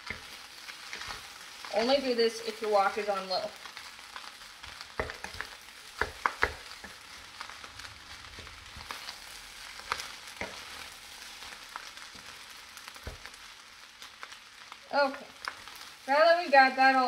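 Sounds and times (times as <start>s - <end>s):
rice sizzling in a wok: 0.0s - 17.0s.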